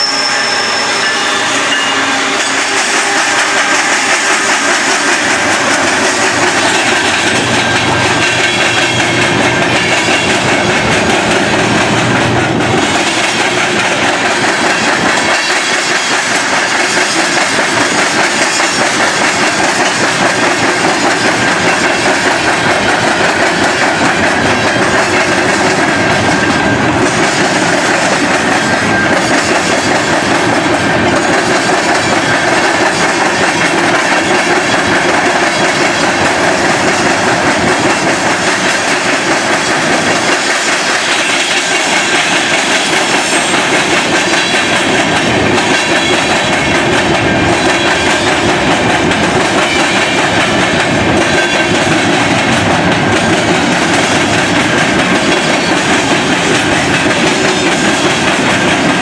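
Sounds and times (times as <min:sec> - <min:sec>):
train wheels clattering on rails: 0:01.0 - 0:59.0.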